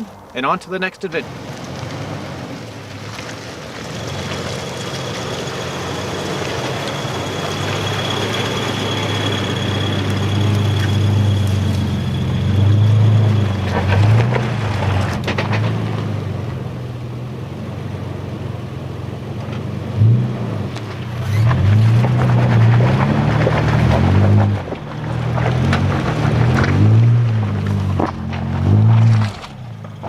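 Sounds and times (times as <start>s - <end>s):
vehicle engine revving: 1.1s - 30.0s.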